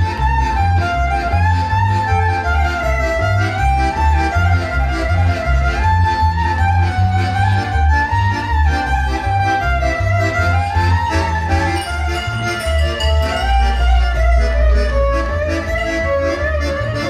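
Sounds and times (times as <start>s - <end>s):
fiddle melody: 0.0s - 17.0s
pulsing bass: 0.0s - 17.0s.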